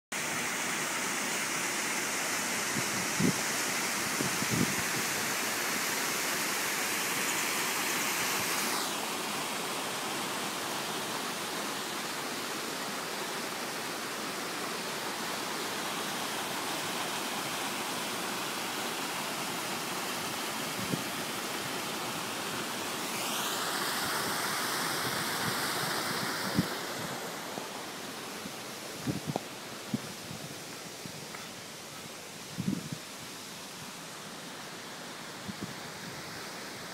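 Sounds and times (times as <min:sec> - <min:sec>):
water rushing over rocks: 0:00.2 - 0:36.9.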